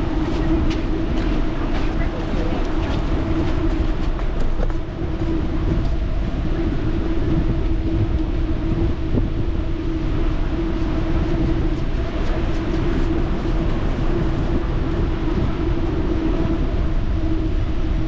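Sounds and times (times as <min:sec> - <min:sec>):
bicycle rolling noise: 0:00.0 - 0:18.0
constant hum: 0:00.0 - 0:18.0
wind rushing over microphone: 0:00.0 - 0:18.0.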